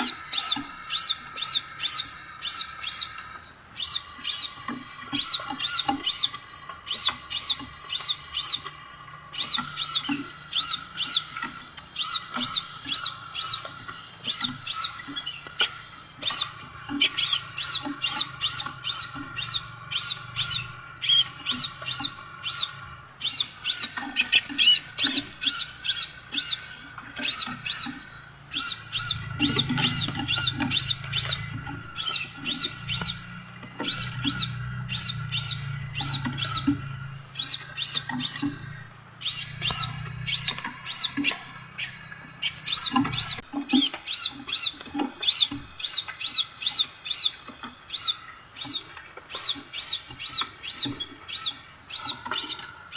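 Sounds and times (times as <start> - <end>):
bird chirping: 0.0 - 52.9.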